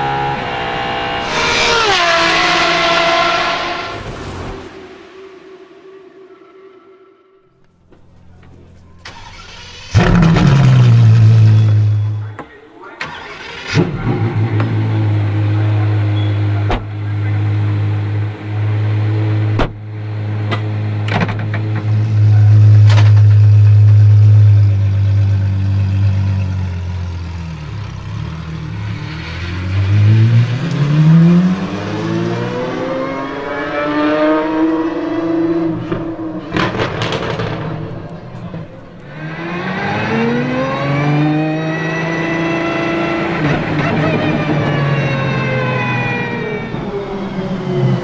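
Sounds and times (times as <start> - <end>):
car engine idling and revving: 0.0 - 5.4, 7.6 - 48.0.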